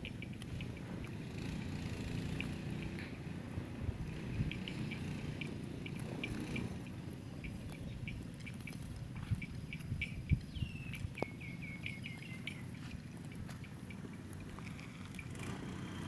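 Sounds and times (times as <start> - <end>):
small bird chirping: 0.0 - 3.2, 4.1 - 16.0.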